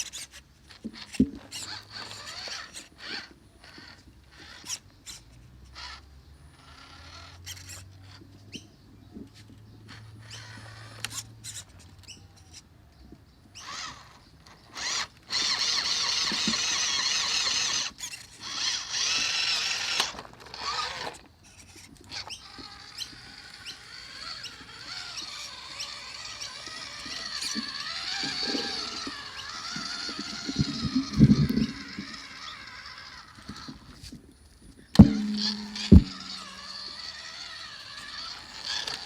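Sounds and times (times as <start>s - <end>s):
small electric motor whining: 0.0s - 39.0s.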